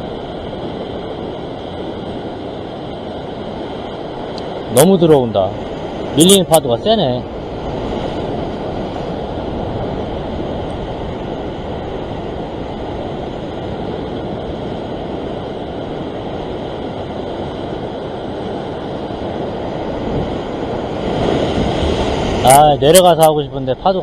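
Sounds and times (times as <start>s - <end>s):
sea surf on rocky shore: 0.0s - 24.0s.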